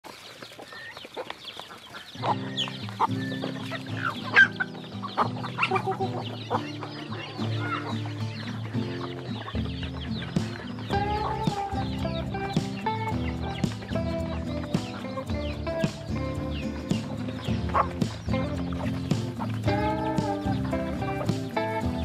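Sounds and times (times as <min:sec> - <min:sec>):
chickens clucking: 0:00.0 - 0:22.0
background music: 0:02.2 - 0:22.0
high chirps: 0:02.2 - 0:22.0.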